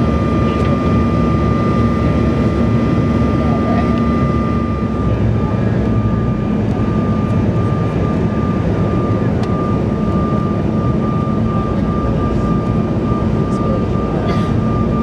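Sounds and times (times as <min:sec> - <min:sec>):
high whine: 0:00.0 - 0:15.0
jet engines in aircraft cabin: 0:00.0 - 0:15.0.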